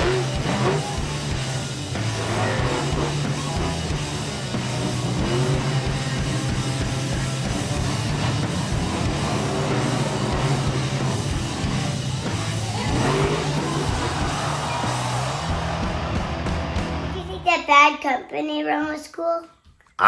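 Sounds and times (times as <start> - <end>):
rock music with guitar and drums: 0.0 - 17.5.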